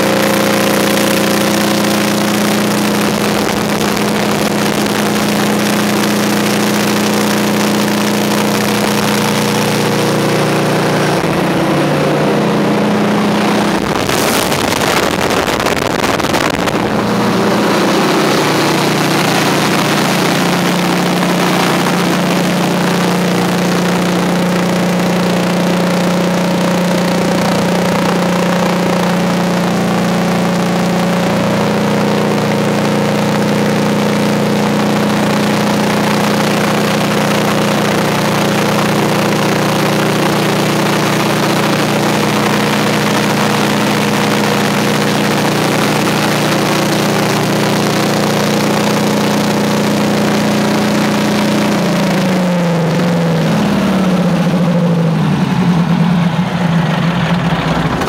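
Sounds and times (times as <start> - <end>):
diesel generator engine drone: 0.0 - 58.0.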